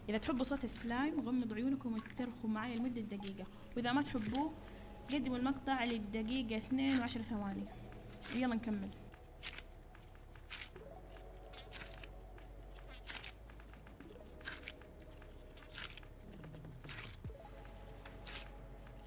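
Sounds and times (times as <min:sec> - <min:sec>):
sticky dough squelching and popping: 0:00.0 - 0:19.0.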